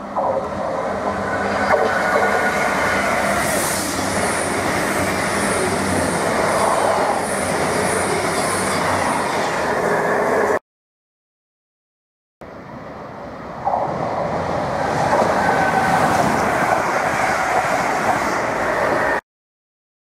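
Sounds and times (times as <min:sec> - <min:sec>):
diesel train passing: 0:00.0 - 0:10.6, 0:12.4 - 0:19.2.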